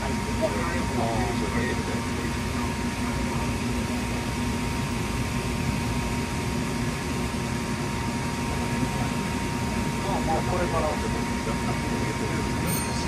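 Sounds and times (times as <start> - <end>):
electric train hum and rumble: 0.0 - 13.0
thin steady whine: 0.0 - 13.0.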